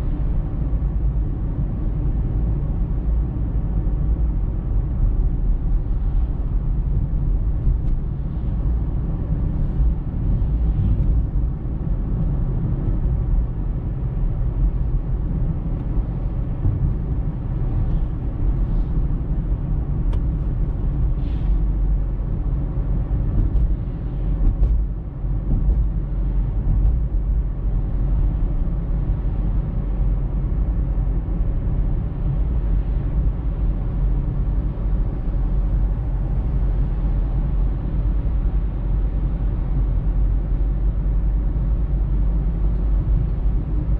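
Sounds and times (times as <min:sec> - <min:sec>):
car interior road rumble: 0:00.0 - 0:43.9.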